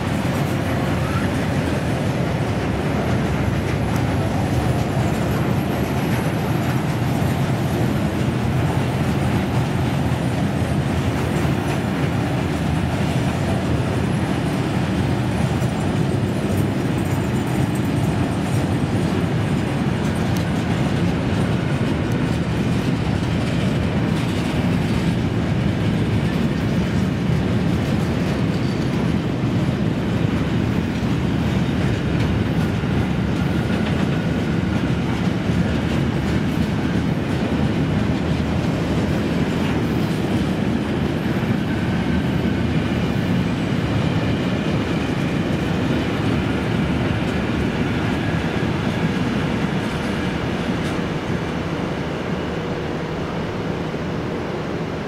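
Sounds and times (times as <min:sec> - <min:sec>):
freight wagons wheel clatter: 0:00.0 - 0:51.7.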